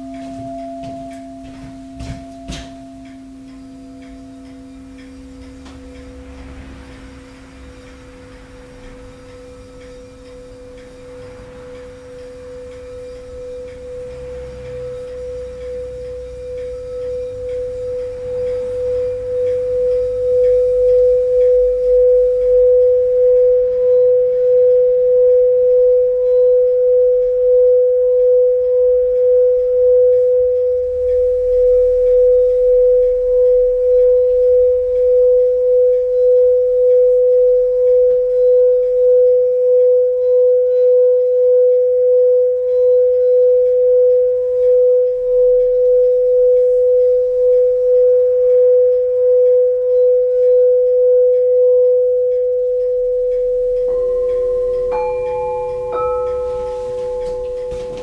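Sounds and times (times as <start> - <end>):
steady pulsing ringing tone: 0.0 - 58.0.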